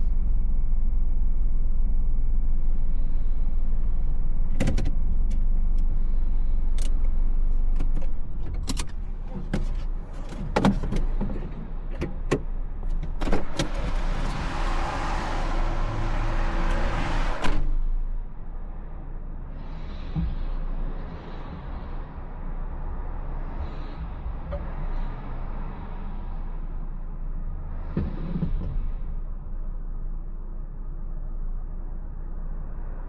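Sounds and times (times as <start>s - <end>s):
car engine rumble: 0.0s - 33.0s.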